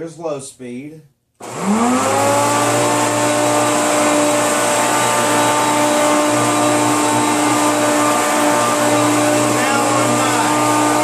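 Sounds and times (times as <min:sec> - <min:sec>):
upright vacuum motor whining: 0:01.4 - 0:11.0.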